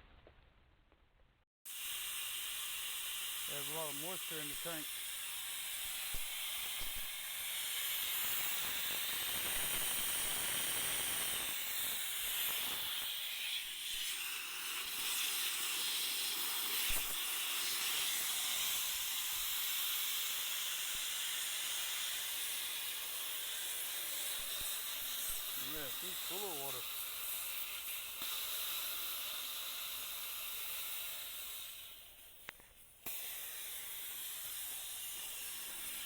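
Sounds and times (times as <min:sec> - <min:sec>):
compressed air hissing from drain: 0:01.7 - 0:36.0.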